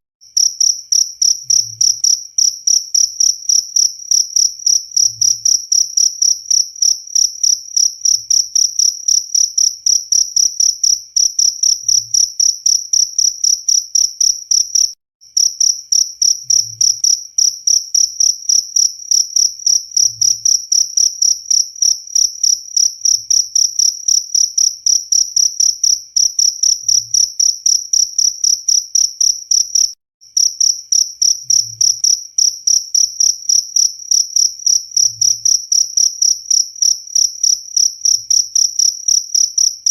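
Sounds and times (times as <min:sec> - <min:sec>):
cricket chirping: 0:00.3 - 0:39.9.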